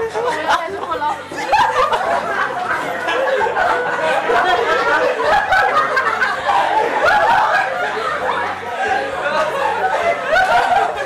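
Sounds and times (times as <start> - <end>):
crowd of teenagers talking: 0.0 - 11.0
teenagers laughing: 0.0 - 11.0.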